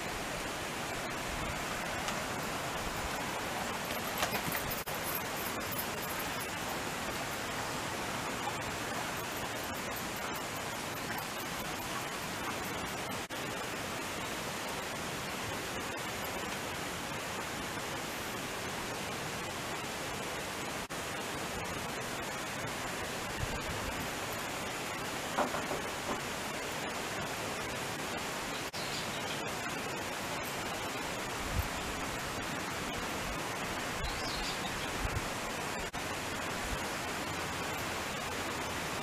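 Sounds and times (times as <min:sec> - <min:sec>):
steady outdoor hiss: 0:00.0 - 0:39.0.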